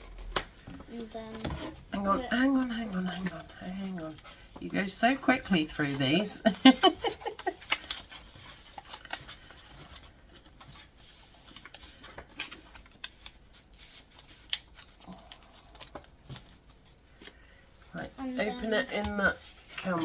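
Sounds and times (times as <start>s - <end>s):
packaging rustling: 2.8s - 20.0s.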